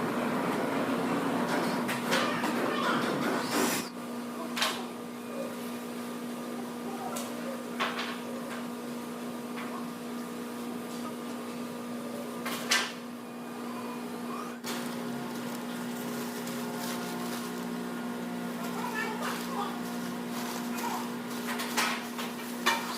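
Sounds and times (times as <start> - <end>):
machine hum: 0.0 - 22.9.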